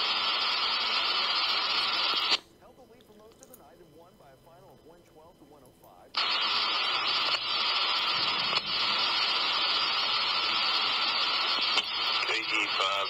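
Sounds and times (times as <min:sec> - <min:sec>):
radio static hiss: 0:00.0 - 0:13.0
faint steady tone: 0:00.1 - 0:13.0.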